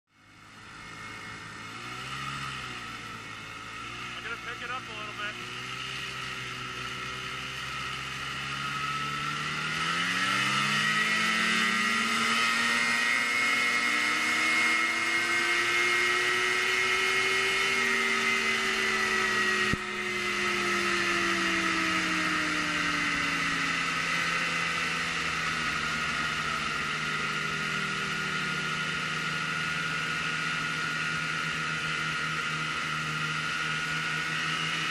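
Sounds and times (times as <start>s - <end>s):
snowmobile engine at full throttle: 0.1s - 34.9s.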